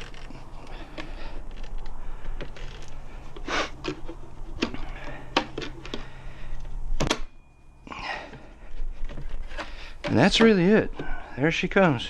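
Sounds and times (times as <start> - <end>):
tire tool clicks and knocks: 0.0 - 7.4, 8.2 - 11.2
steady low hum: 0.0 - 12.0.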